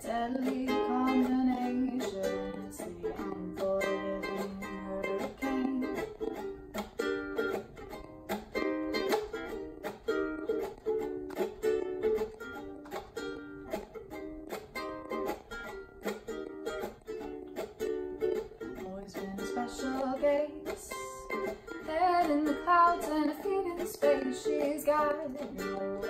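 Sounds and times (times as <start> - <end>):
ukulele strumming chords: 0.0 - 26.0.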